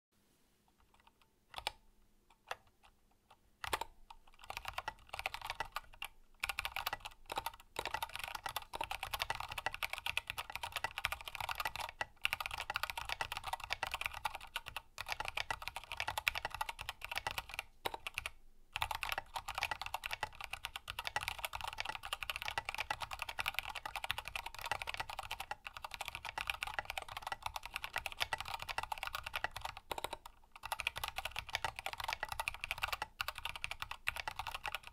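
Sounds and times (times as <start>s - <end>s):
mechanical keyboard typing: 0.8s - 3.0s, 3.6s - 34.9s.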